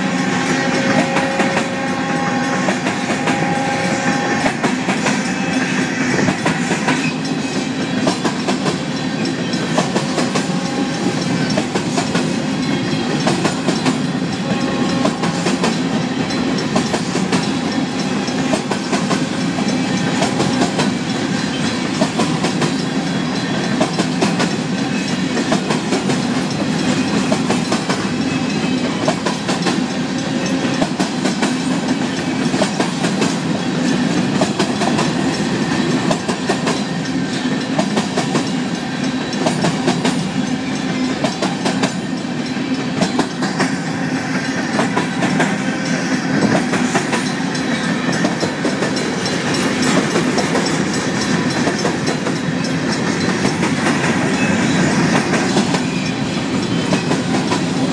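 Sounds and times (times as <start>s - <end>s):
train rumble: 0.0s - 57.9s
train wheels clattering: 0.0s - 57.9s.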